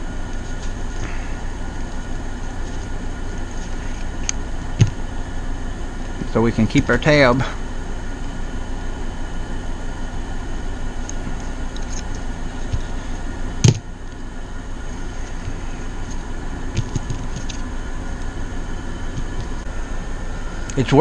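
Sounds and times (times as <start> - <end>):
air conditioners humming: 0.0 - 21.0.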